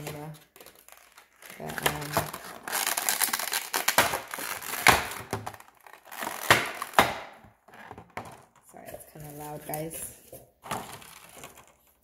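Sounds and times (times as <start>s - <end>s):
plastic insert crinkling: 0.0s - 12.0s.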